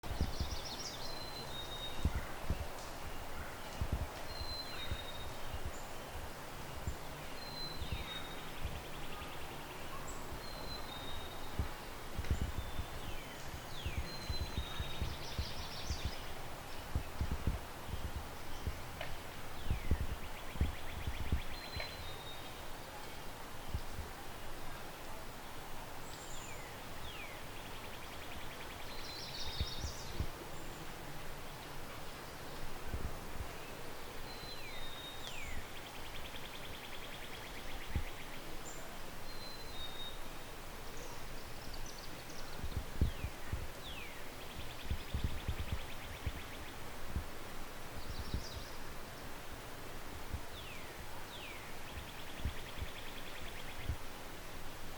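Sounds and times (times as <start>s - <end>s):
steady outdoor hiss: 0.0s - 54.9s
wild birds chirping: 0.0s - 54.9s.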